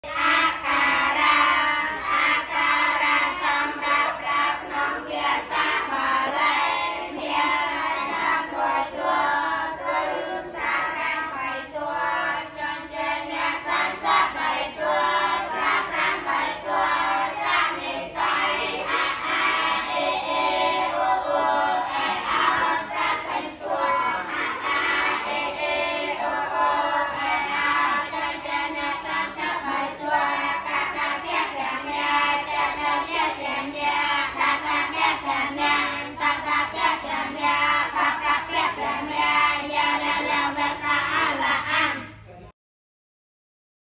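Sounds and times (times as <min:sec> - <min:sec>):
boys chanting in unison: 0:00.0 - 0:42.3.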